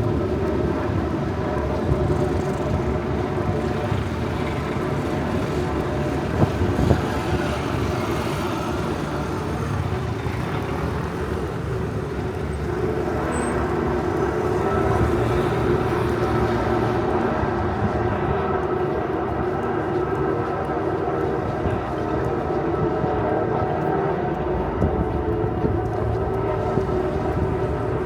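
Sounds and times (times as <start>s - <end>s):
motor vehicle running: 0.0s - 28.0s.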